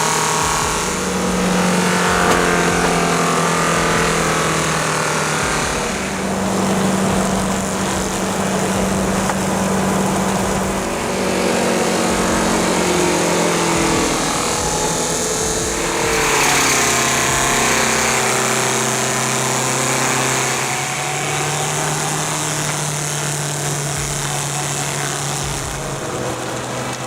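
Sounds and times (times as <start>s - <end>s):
engine running at high speed: 0.0s - 27.0s.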